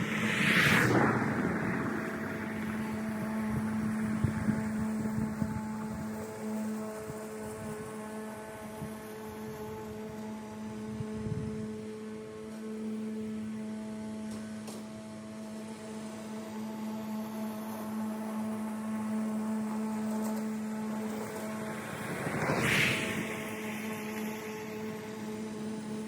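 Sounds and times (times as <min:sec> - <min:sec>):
lawn tool motor humming: 0:01.2 - 0:26.0.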